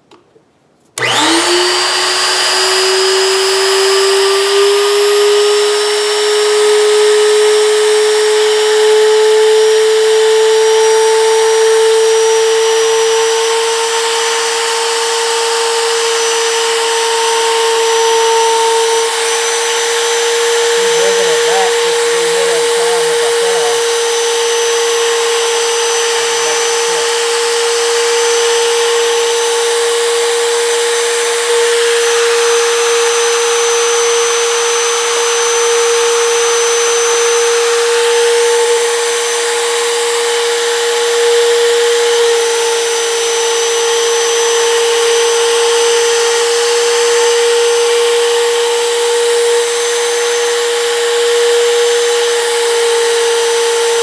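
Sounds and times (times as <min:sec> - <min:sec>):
router cutting wood: 0:01.0 - 0:54.0.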